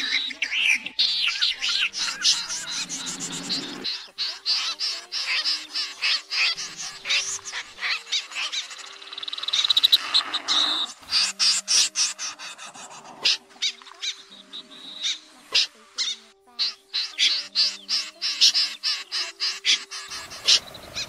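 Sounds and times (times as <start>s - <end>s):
snipe calls: 0.0s - 21.0s.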